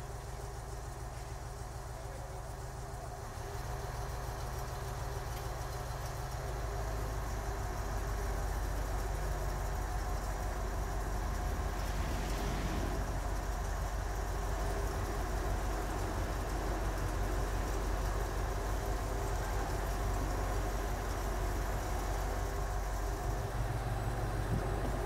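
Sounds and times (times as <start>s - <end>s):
heavy engine rumbling: 0.0s - 25.0s.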